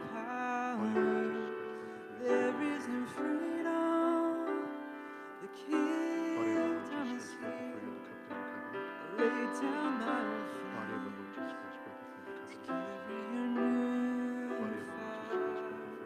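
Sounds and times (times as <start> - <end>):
person singing: 0.0 - 16.0
piano: 0.0 - 16.0.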